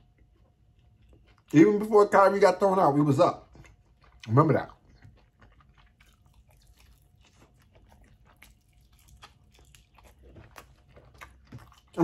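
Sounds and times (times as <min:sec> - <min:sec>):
faint chewing with crunches: 0:00.0 - 0:12.0.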